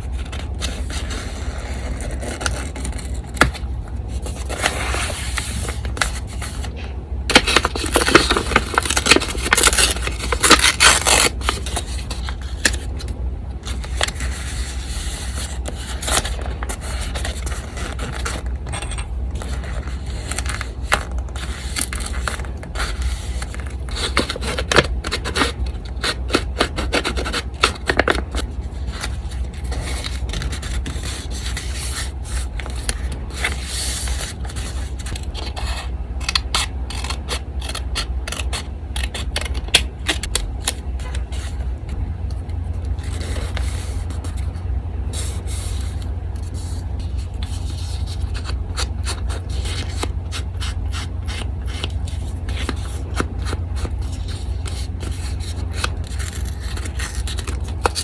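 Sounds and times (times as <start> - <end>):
paper rubbing and scraping: 0.0 - 18.5, 19.3 - 42.0, 42.8 - 58.0.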